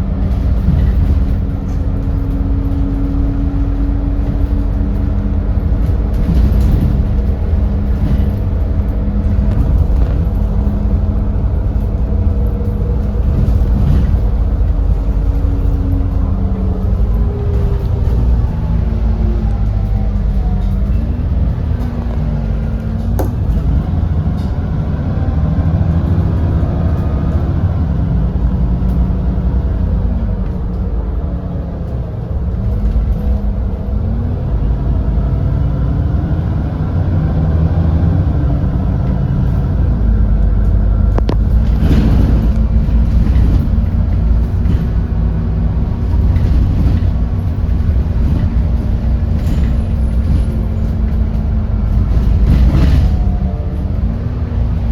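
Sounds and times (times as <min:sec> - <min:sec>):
bus engine under way: 0:00.0 - 0:54.9.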